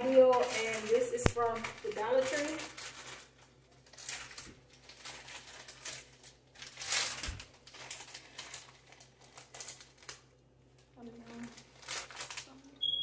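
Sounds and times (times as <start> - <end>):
plastic bags crinkling: 0.0 - 12.9.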